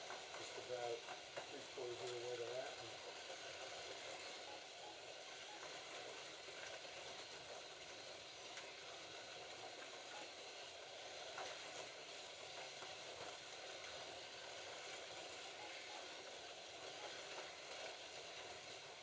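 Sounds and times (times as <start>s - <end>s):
slot car motors whirring: 0.0s - 19.0s.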